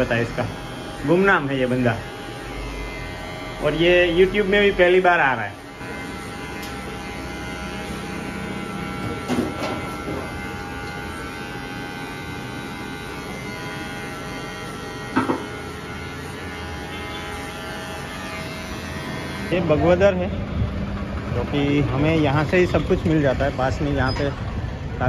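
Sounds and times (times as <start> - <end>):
hair clippers buzzing: 0.0 - 25.0.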